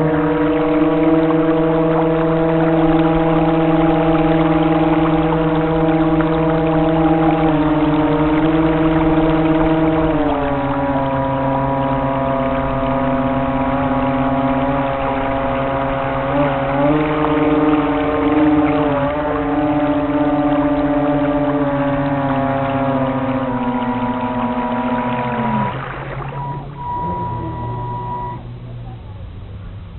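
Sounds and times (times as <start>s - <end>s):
electric motor whine: 0.0s - 28.5s.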